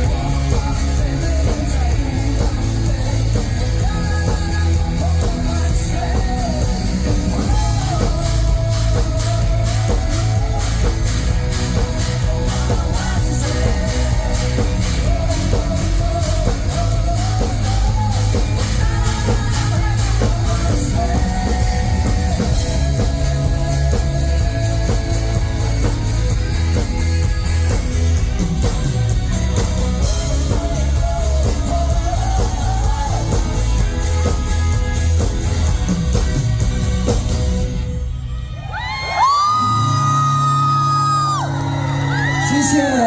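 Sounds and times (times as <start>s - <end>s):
person singing: 0.0s - 36.4s
drum beat: 0.0s - 37.6s
rock band playing live: 0.0s - 43.0s.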